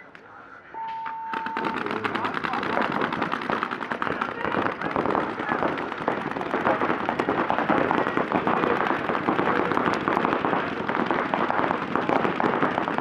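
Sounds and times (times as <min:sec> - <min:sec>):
paintball markers firing: 0:01.3 - 0:13.0.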